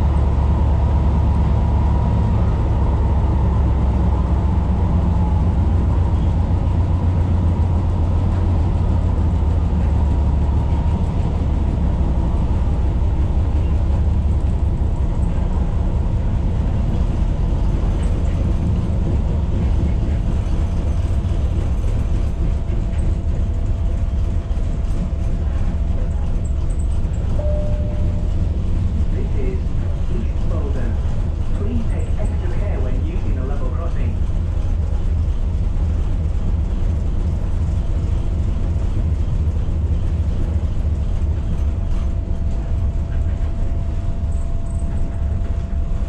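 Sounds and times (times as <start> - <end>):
train wheels rumbling: 0.0 - 46.0.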